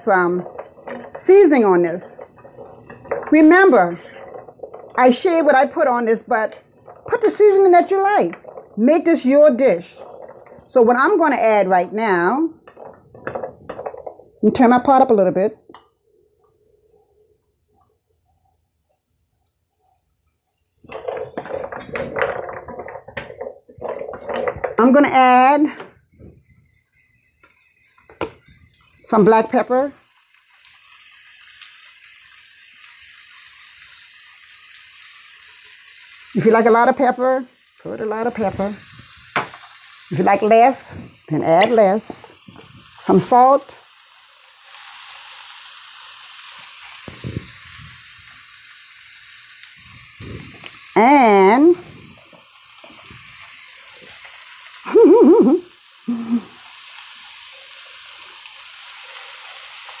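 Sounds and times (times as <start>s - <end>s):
turnip sizzling in hot oil: 0.0s - 15.8s, 20.5s - 60.0s.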